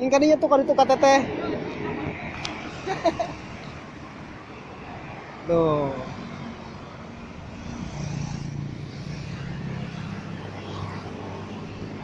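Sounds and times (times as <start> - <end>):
traffic passing: 0.0 - 12.0.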